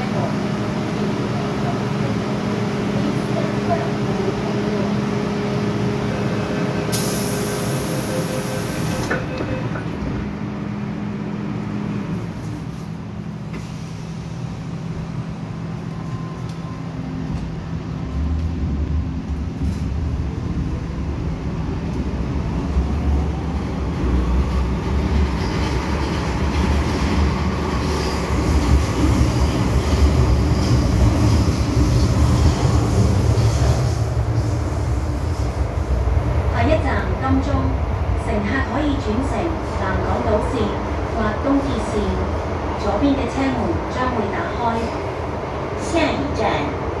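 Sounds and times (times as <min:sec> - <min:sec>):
train rumbling in tunnel: 0:00.0 - 0:47.0.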